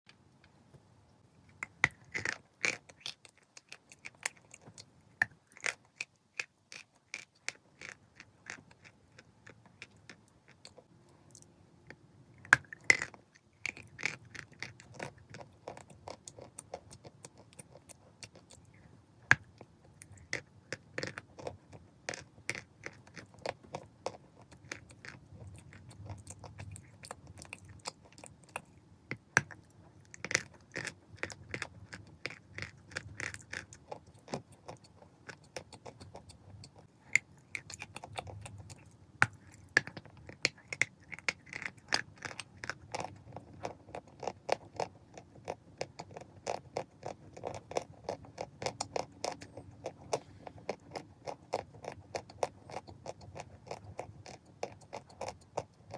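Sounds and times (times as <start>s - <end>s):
chalk crunching while chewed: 1.5s - 55.9s.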